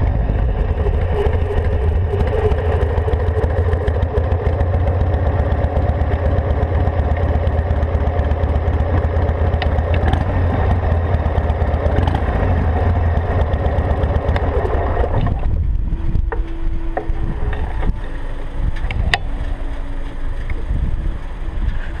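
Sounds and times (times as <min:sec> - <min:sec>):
low rumble: 0:00.0 - 0:22.0
motorcycle engine idling: 0:00.0 - 0:22.0.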